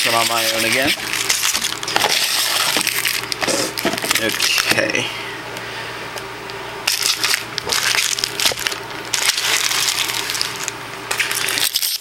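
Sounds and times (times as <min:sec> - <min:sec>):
card packaging crinkling: 0:00.0 - 0:04.8, 0:06.8 - 0:12.0.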